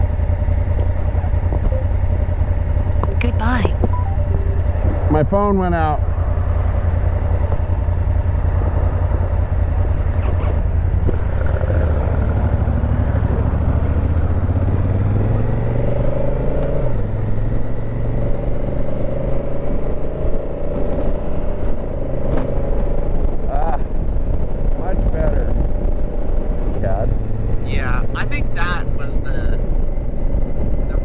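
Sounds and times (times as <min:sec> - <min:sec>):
motorcycle engine: 0:00.0 - 0:31.0
wind and road noise: 0:00.0 - 0:31.0.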